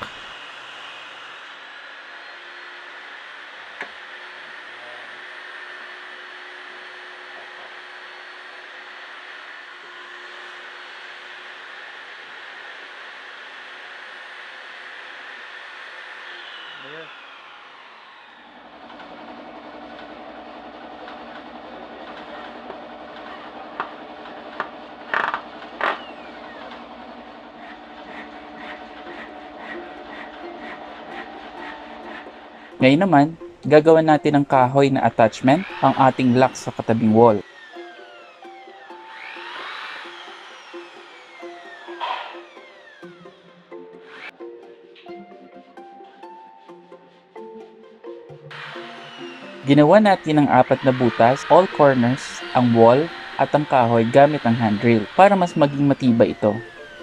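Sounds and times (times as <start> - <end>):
hand saw cutting wood: 0.0 - 44.4, 48.5 - 57.0.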